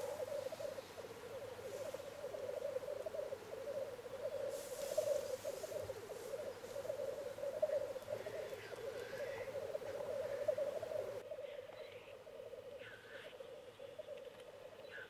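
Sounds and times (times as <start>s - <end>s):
grouse bubbling cooing chorus: 0.0s - 15.0s
grouse hiss: 0.0s - 15.0s.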